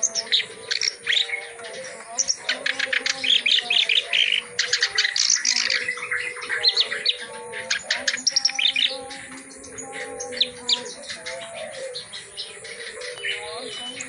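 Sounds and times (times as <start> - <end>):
reed warbler singing: 0.0 - 14.0.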